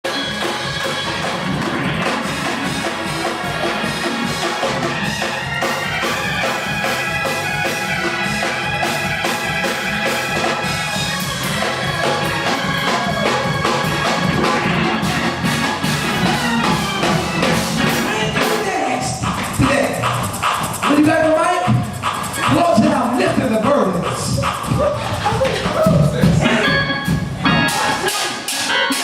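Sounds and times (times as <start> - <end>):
drums playing a steady beat: 0.0 - 29.0
gospel music with organ: 0.0 - 29.0.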